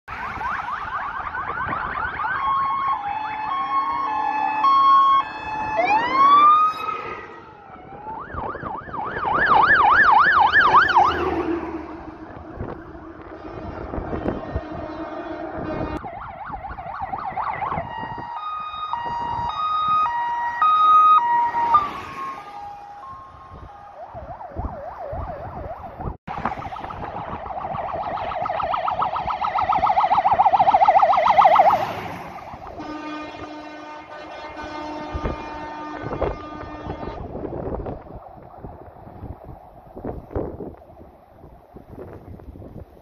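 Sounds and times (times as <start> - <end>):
fire engine sirens: 0.0 - 43.0.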